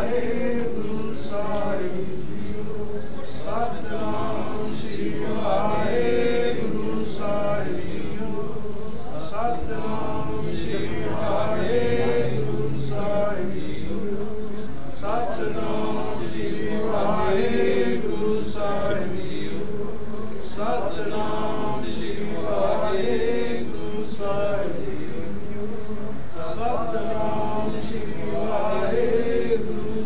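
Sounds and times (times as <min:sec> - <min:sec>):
voices chanting hymns: 0:00.0 - 0:30.0.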